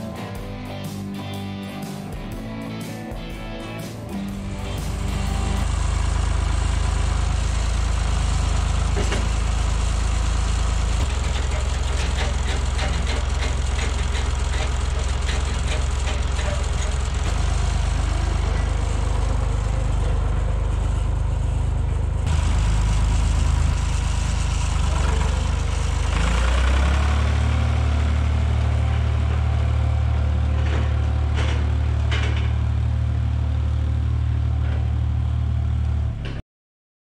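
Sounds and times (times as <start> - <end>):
large engine running: 0.0 - 36.4.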